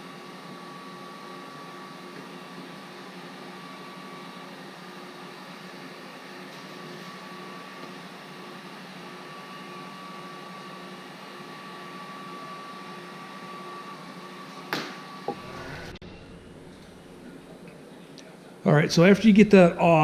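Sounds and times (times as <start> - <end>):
heat gun blowing with whine: 0.0 - 17.0.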